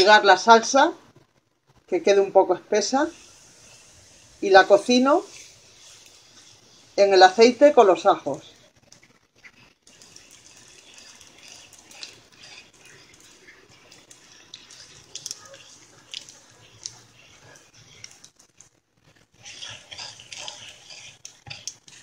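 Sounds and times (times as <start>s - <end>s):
frying sizzle with crackles: 1.8s - 22.0s.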